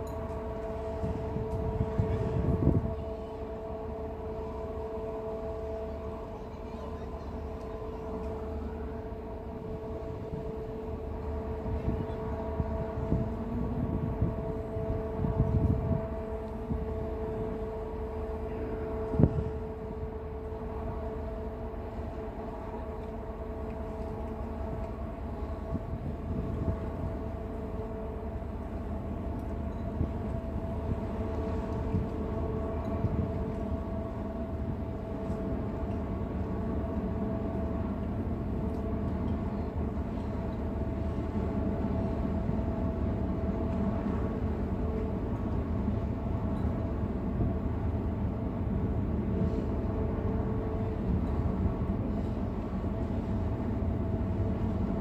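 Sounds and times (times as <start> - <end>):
ship machinery hum: 0.0 - 55.0
uneven low rumble: 0.0 - 55.0.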